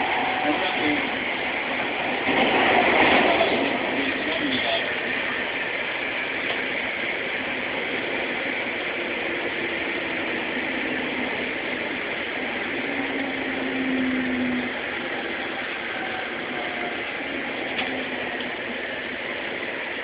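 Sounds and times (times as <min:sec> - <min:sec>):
commuter train running: 0:00.0 - 0:20.0.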